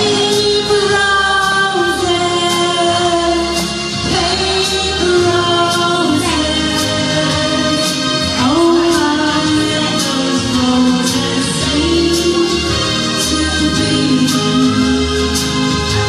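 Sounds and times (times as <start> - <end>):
karaoke backing track: 0.0 - 16.0
woman singing into microphone: 0.0 - 16.0.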